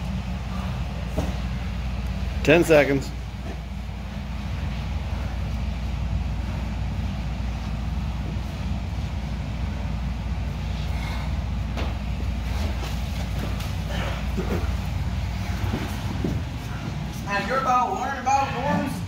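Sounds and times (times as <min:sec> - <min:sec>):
low rumbling hum: 0:00.0 - 0:19.0.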